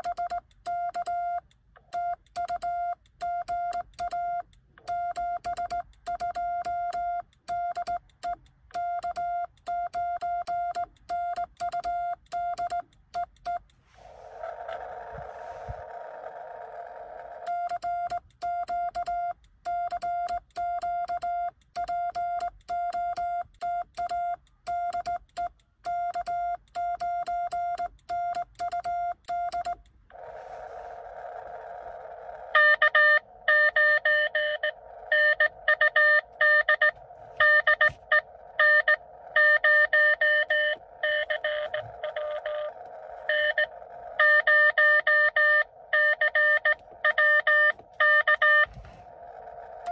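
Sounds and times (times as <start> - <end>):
incoming morse code signal: 0.0 - 13.7, 17.4 - 29.9, 32.6 - 48.9
morse code beeps: 0.0 - 13.7, 17.4 - 29.9, 32.6 - 48.8.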